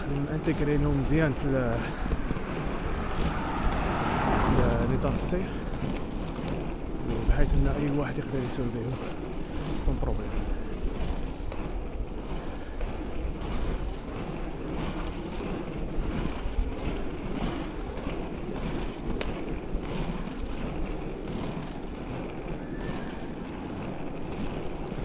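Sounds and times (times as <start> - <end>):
skate wheels rolling on pavement: 0.0 - 25.0
wind buffeting microphone: 0.0 - 25.0.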